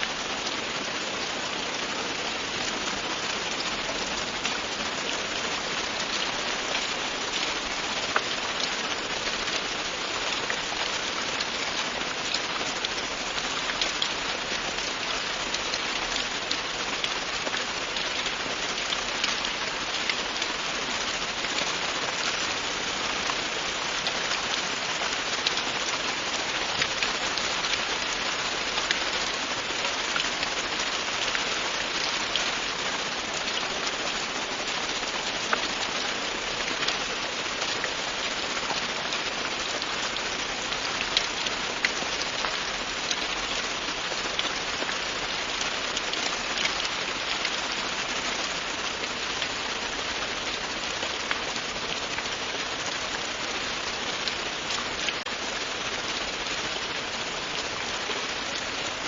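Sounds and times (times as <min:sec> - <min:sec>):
steady rain hiss with drop ticks: 0:00.0 - 0:59.0.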